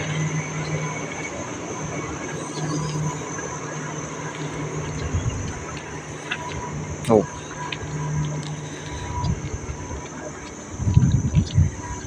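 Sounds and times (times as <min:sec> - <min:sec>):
boat engine idling: 0:00.0 - 0:12.0
steady rushing noise: 0:00.0 - 0:12.0.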